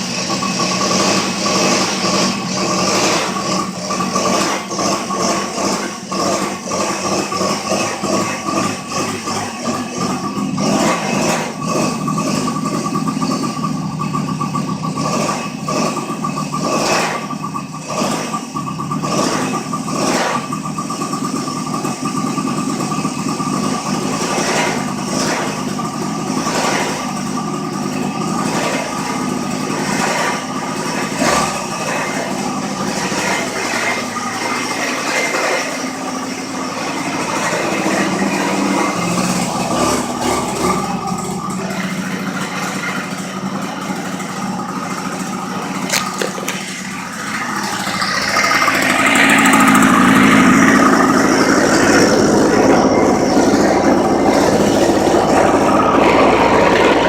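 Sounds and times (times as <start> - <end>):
small two-stroke engine running: 0.0 - 57.0.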